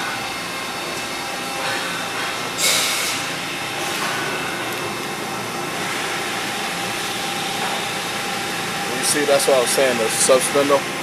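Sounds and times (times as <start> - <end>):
machine hum with high whine: 0.0 - 11.0.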